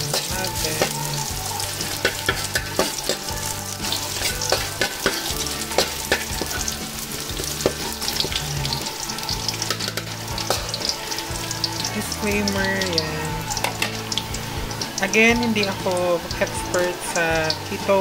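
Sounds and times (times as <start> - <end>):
metal ladle scraping a wok: 0.0 - 14.9
garlic sizzling in hot oil: 0.0 - 18.0.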